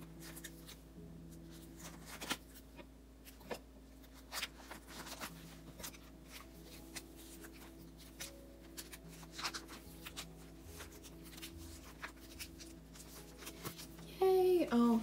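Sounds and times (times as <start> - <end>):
cards rustling in plastic sleeves: 0.0 - 14.6.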